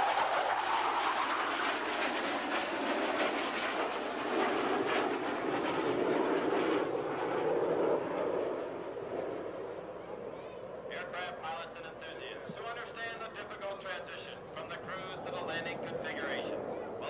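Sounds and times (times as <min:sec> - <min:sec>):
jet engine roar overhead: 0:00.0 - 0:17.0.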